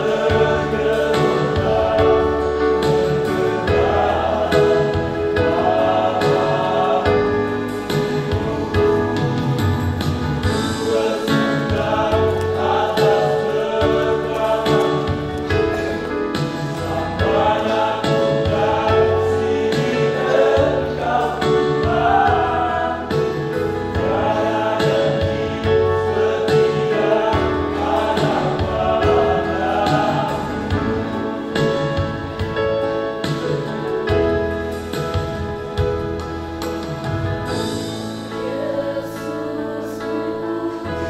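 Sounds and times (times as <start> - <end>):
choir singing a hymn: 0.0 - 41.0.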